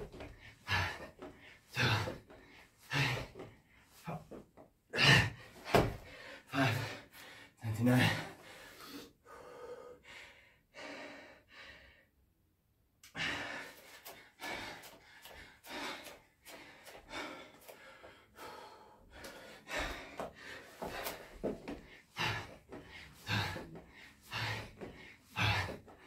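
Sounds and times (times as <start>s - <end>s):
man breathing hard: 0.1s - 12.2s, 13.0s - 26.0s.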